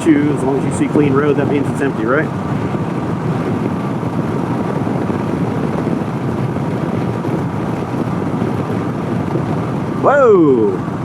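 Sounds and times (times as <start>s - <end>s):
motorcycle engine running: 0.0s - 11.0s
wind rush over microphone: 0.0s - 11.0s.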